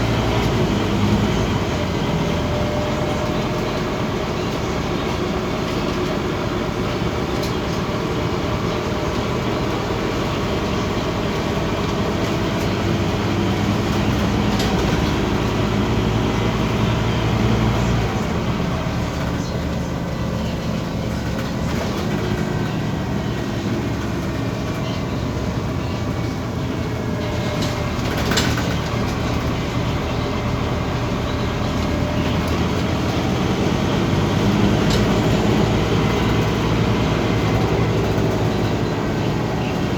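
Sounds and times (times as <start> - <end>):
bus diesel engine drone: 0.0 - 39.9
road noise: 0.0 - 39.9.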